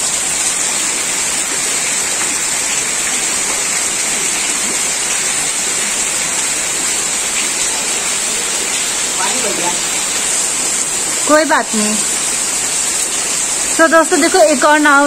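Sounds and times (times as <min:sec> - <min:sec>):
heavy rain on standing water: 0:00.0 - 0:15.0.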